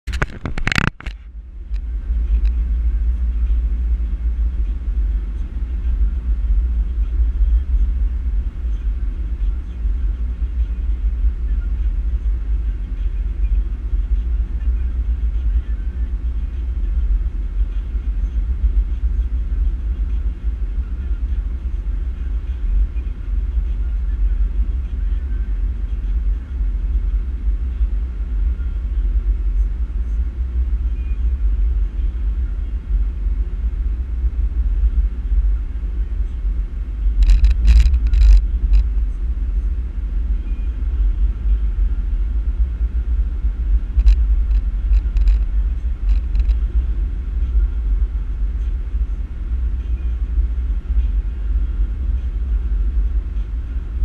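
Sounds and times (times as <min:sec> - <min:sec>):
car driving at highway speed: 0:00.0 - 0:54.0.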